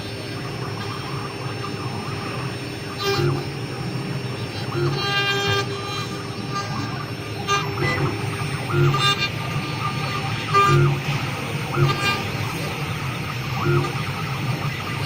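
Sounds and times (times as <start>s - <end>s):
cnc router whining tones: 0.0s - 15.0s
steady machine hum: 0.0s - 15.0s.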